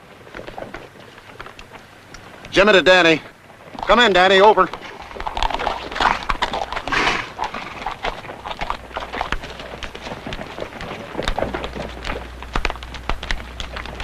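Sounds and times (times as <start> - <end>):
horse hooves clopping: 0.0 - 14.0.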